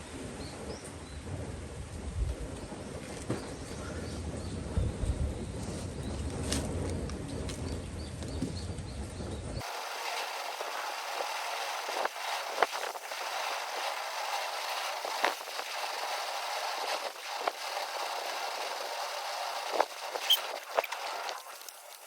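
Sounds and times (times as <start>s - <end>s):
campfire hissing: 0.0s - 22.0s
fire crackles and pops: 0.2s - 22.0s.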